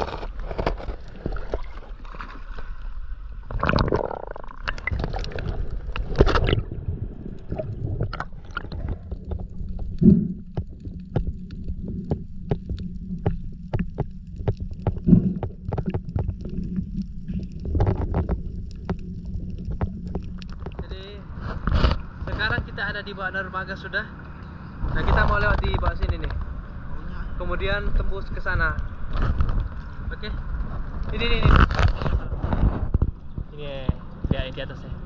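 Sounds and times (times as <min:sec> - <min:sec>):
underwater splashing and bubbling: 0:00.0 - 0:22.7, 0:28.5 - 0:34.3
ship machinery hum underwater: 0:00.0 - 0:35.0.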